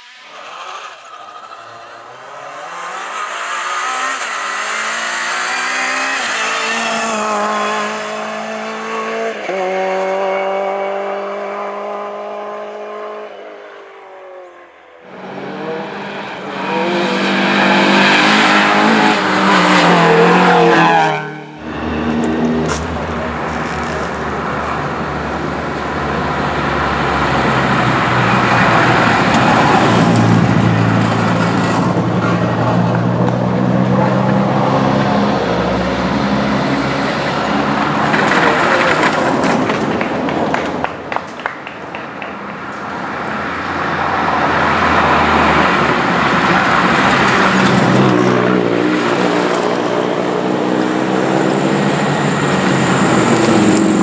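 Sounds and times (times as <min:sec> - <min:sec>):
race car engines accelerating: 0:00.0 - 0:41.3, 0:42.0 - 0:54.0.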